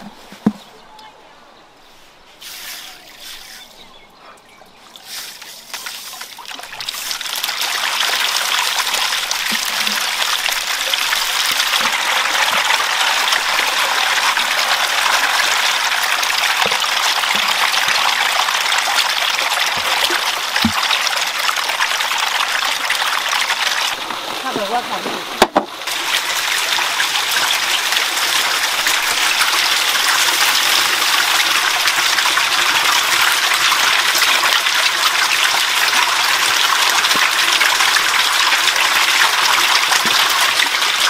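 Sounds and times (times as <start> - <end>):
eels splashing and churning water: 4.7 - 41.0.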